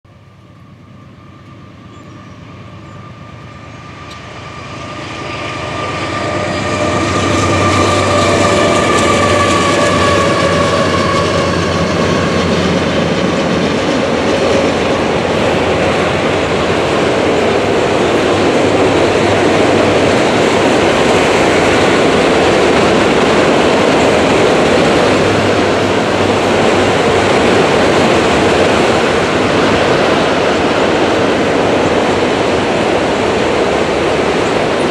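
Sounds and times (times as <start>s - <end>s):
freight cars rumbling on rails: 0.1s - 34.9s.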